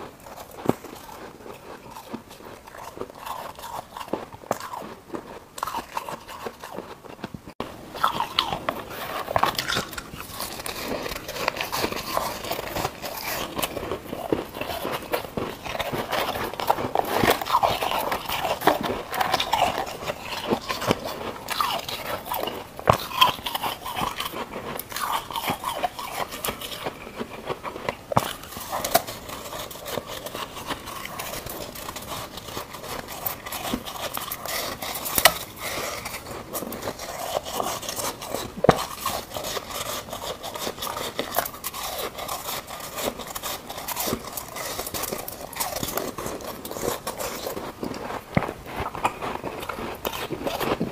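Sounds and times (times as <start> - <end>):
person crunching and chewing ice: 0.0 - 50.9.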